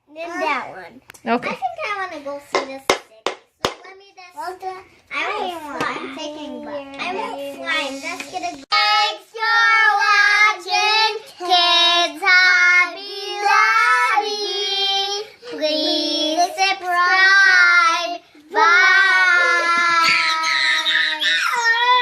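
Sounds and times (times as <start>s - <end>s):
young child singing: 4.4s - 22.0s.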